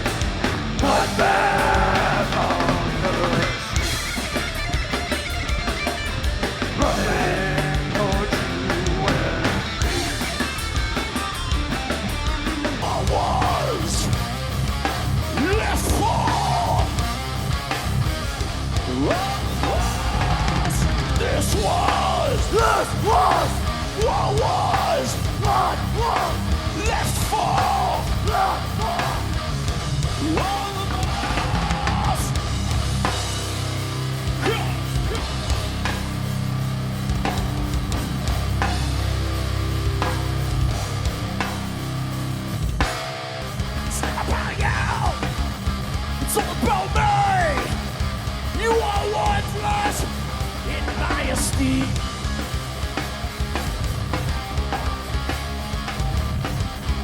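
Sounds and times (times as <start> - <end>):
distorted electric guitars: 0.0 - 57.0
live heavy metal band: 0.0 - 57.0
pounding drum kit: 0.0 - 57.0.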